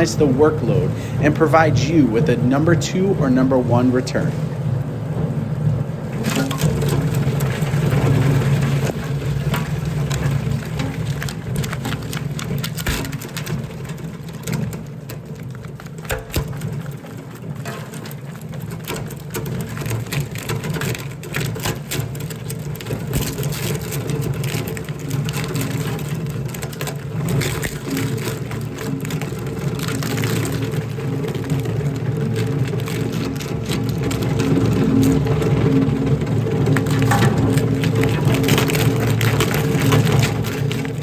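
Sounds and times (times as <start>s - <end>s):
shredder motor hum: 5.3s - 41.0s
wire cracking and snapping: 6.1s - 41.0s.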